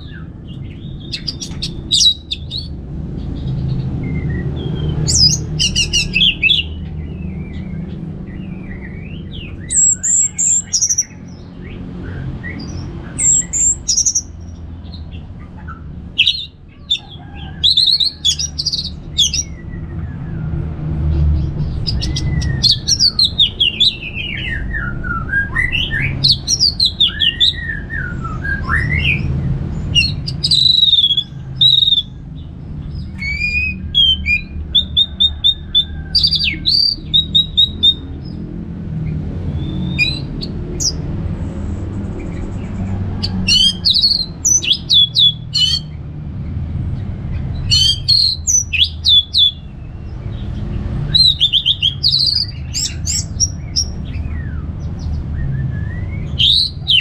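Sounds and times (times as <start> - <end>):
thrush singing whistled song: 0.0 - 2.8, 4.0 - 20.4, 21.8 - 32.2, 32.9 - 38.4, 39.5 - 41.0, 43.2 - 46.0, 47.6 - 49.9, 51.1 - 57.0
low rumble: 0.0 - 30.6, 31.3 - 56.9.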